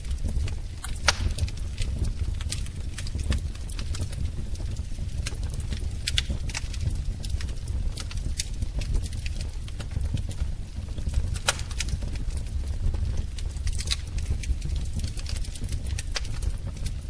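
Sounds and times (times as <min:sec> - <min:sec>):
low rumble of flames: 0:00.0 - 0:17.0
wood fire crackling: 0:00.0 - 0:17.0
sharp pops of fire: 0:00.1 - 0:17.0.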